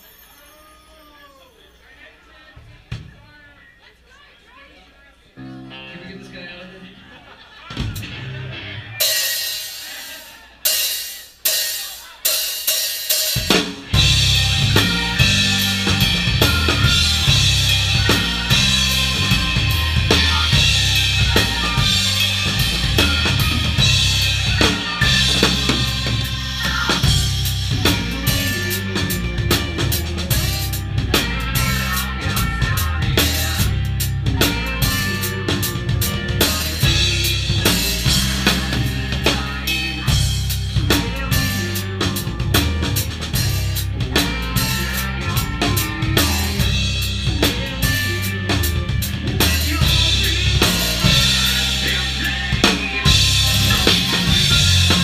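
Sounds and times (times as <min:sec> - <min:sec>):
live rock band: 0:05.4 - 0:55.0
drum and cymbal hits: 0:09.0 - 0:55.0.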